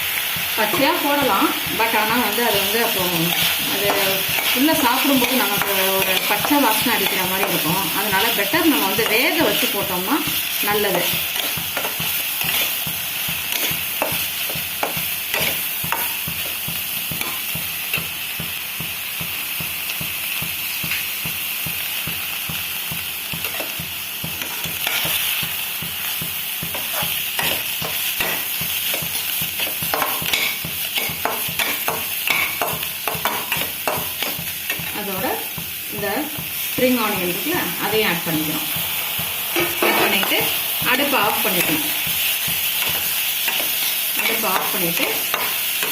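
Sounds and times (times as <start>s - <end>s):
meat sizzling in oil: 0.0s - 45.9s
spatula scraping and tapping pan: 0.6s - 9.9s, 10.7s - 36.6s, 38.8s - 45.9s.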